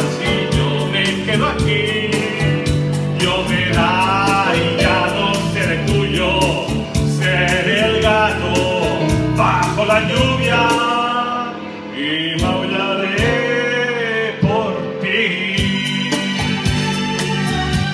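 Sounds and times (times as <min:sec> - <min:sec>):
man singing pop ballad: 0:00.0 - 0:16.7
keyboard accompaniment with beat: 0:00.0 - 0:17.9.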